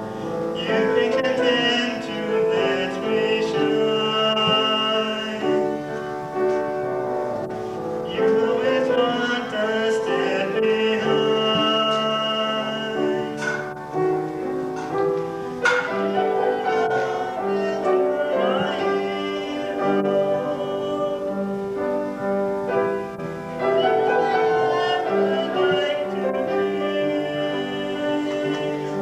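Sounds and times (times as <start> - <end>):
piano music with held notes: 0.0 - 29.0.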